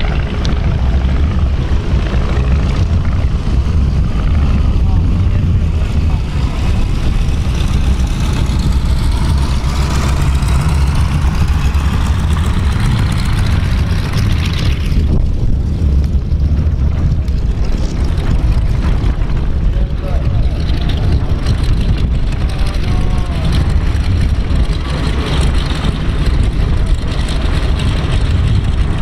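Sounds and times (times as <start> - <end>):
heavy low rumble: 0.0 - 29.0
jet engine roar: 0.0 - 29.0.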